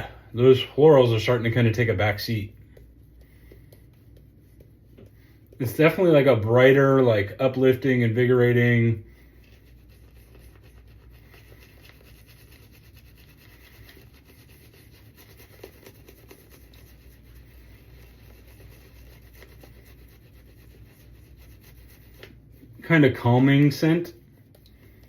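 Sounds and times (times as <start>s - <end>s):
shaving brush rubbing lather: 0.0s - 25.0s.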